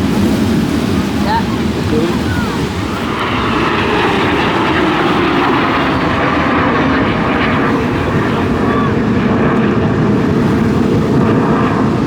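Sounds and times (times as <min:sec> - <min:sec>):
aircraft flying over: 0:00.0 - 0:12.0.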